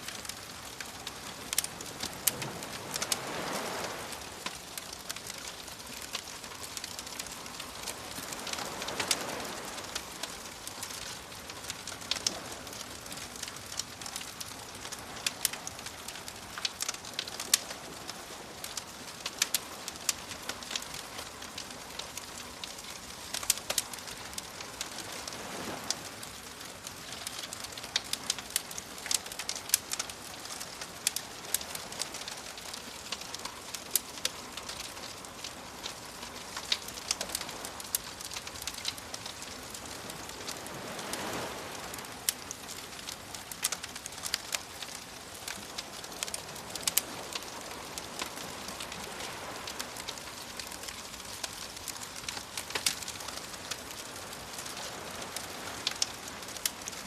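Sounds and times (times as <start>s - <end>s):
campfire crackling and popping: 0.0s - 57.0s
waves washing in: 0.0s - 57.0s.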